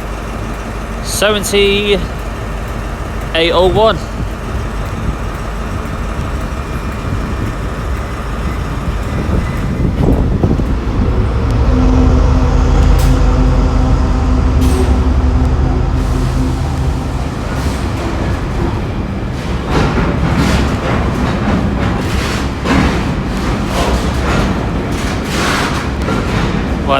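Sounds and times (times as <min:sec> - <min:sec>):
diesel locomotive engine drone: 0:00.0 - 0:26.9.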